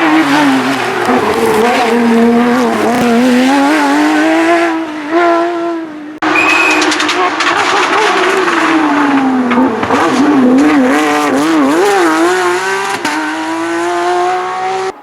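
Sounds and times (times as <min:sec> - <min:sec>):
rally car engine high revs: 0:00.0 - 0:15.0.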